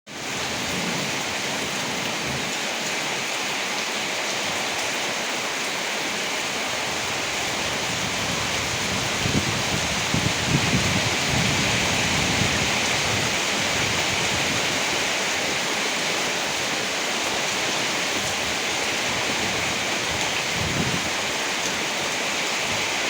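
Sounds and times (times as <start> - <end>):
heavy rain falling: 0.1 - 23.0.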